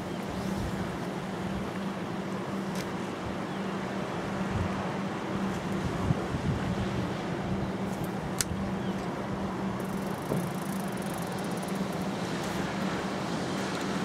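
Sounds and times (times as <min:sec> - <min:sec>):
surf on a sea wall: 0:00.0 - 0:14.0
wind: 0:00.0 - 0:14.0.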